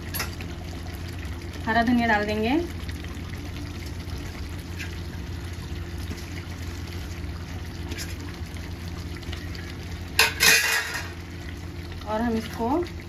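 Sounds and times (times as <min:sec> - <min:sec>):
curry bubbling in pan: 0:00.0 - 0:13.0
gas stove hum: 0:00.0 - 0:13.0.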